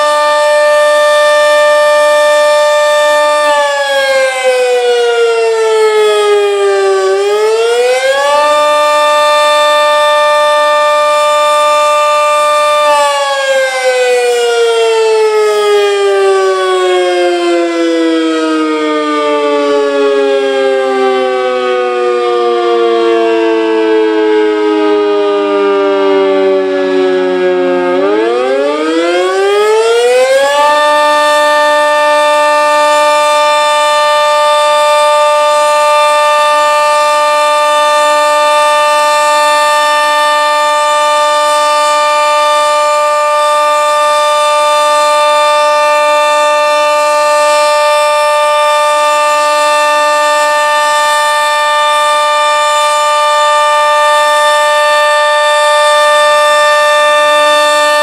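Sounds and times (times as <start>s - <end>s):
two-tone tornado siren wailing: 0.0s - 58.0s.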